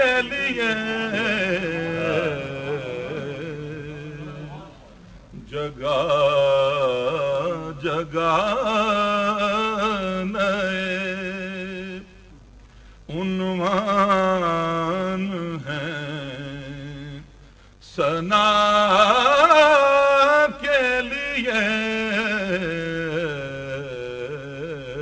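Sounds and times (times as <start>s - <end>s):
man chanting melodically: 0.0s - 12.3s, 13.1s - 25.0s.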